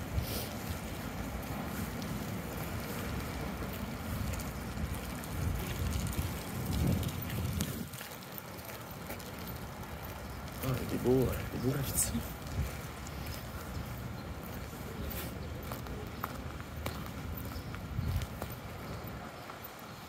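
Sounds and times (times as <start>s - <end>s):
wind buffeting microphone: 0.0s - 8.2s, 9.8s - 19.8s.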